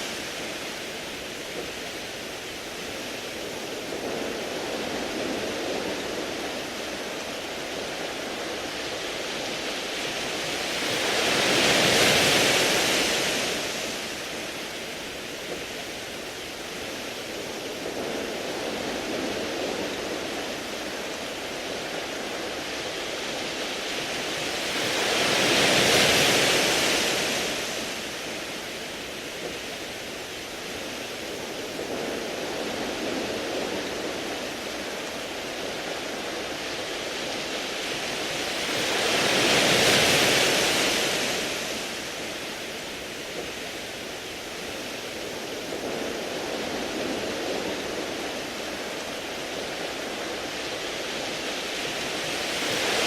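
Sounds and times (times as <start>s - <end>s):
sea waves on pebble beach: 0.0s - 53.0s.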